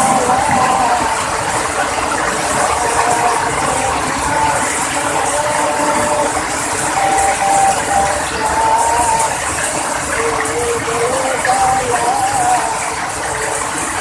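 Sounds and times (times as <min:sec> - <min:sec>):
faint wavering tones: 0:00.0 - 0:14.0
heavy rain hissing: 0:00.0 - 0:14.0.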